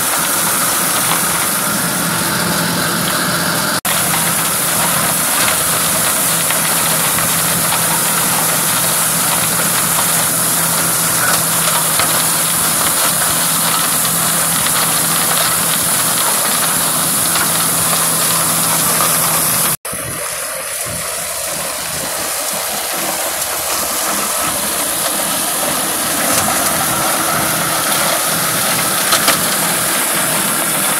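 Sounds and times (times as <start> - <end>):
flail mower shredding stubble: 0.0 - 30.9
tractor diesel engine running: 0.0 - 30.9.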